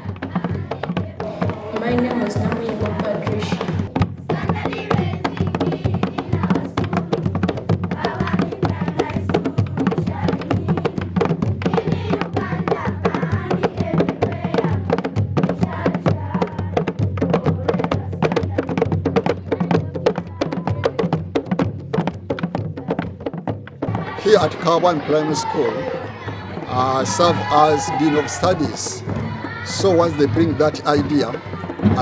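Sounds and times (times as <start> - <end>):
busy steady percussion: 0.0 - 32.0.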